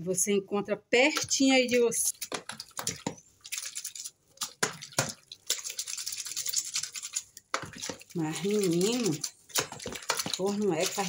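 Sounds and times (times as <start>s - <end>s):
wet sloshing and splashing: 2.1s - 11.0s.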